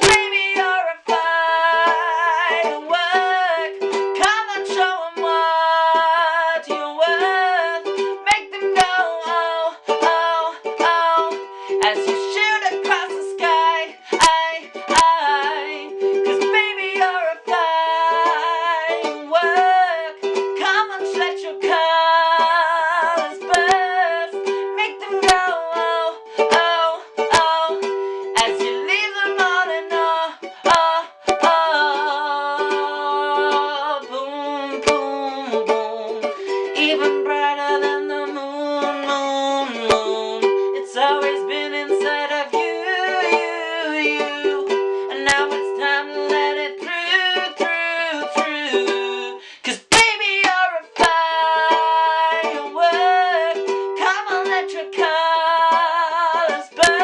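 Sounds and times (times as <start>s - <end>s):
ukulele strumming chords: 0.0s - 57.0s.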